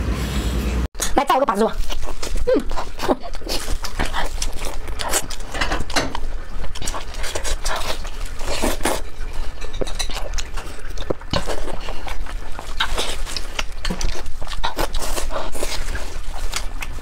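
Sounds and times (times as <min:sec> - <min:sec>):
wet chewing and lip-smacking: 0:01.0 - 0:17.0.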